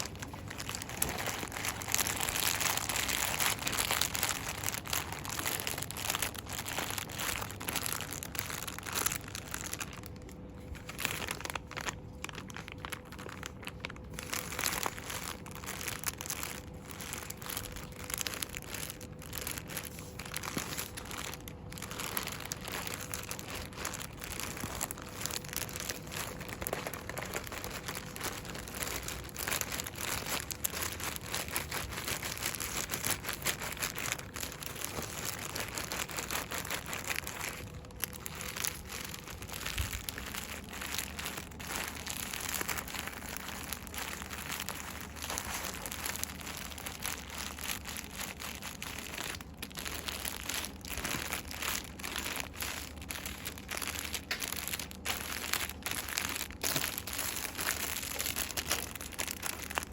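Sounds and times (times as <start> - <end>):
packaging rustling and crinkling: 0.0 - 59.9.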